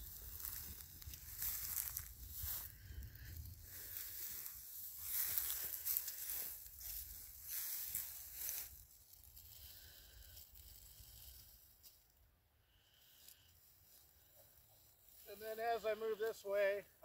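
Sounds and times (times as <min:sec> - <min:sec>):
dry grass rustling: 0:00.0 - 0:16.8.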